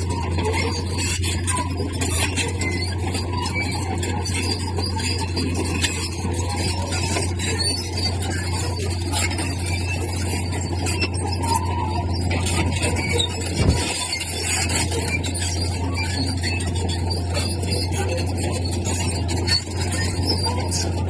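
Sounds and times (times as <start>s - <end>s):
diesel machinery drone: 0.0s - 21.0s
squeaking and scraping: 0.0s - 21.0s.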